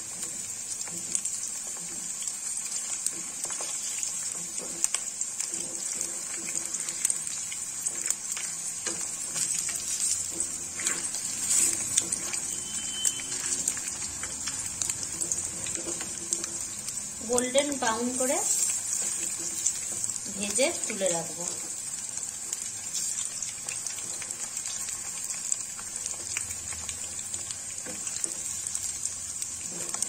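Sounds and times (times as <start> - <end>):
fish deep-frying in oil: 0.0 - 30.0.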